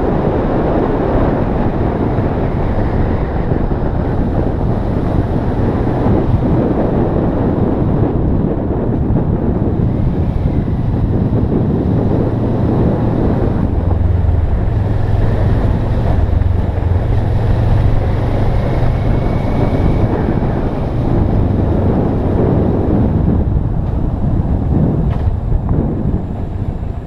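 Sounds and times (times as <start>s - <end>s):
motorcycle engine drone: 0.0s - 27.0s
wind rushing on microphone: 0.0s - 27.0s.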